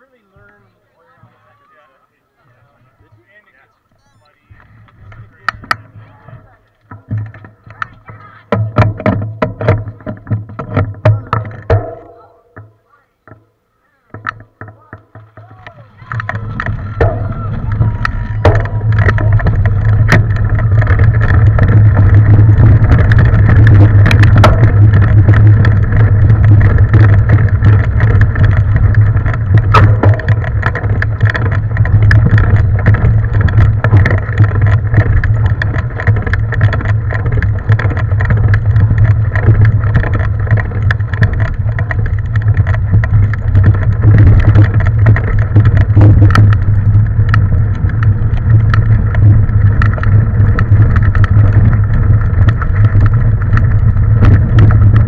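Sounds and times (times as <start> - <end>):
mountain bike rumbling on trail: 2.4 - 13.0, 14.1 - 55.0
bike rattling clicks and knocks: 4.6 - 13.5, 14.1 - 55.0.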